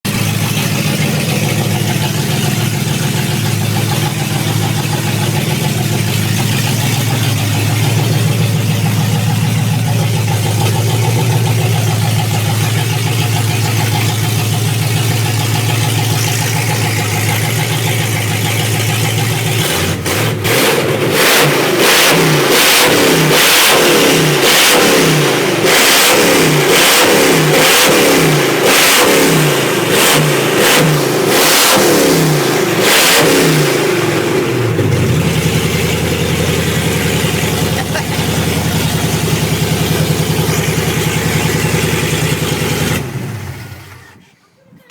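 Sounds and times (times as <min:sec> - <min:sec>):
car engine revving without exhaust: 0:00.0 - 0:44.3.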